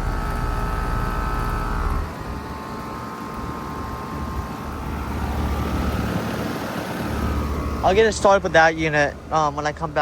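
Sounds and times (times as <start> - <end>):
heat pump compressor and fan hum: 0.0 - 10.0.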